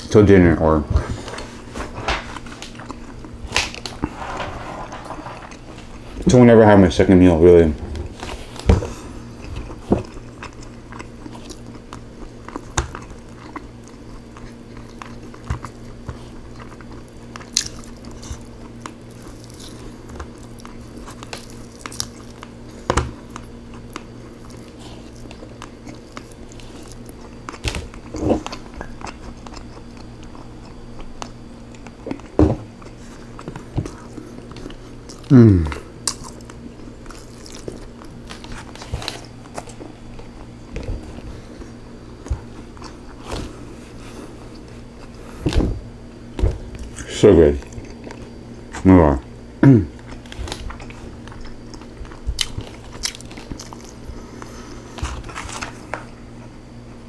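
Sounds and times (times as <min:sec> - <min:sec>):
faint steady hum: 0:00.0 - 0:57.0
chewing and biting: 0:02.2 - 0:04.1, 0:08.0 - 0:45.6, 0:46.3 - 0:48.8, 0:49.9 - 0:56.3.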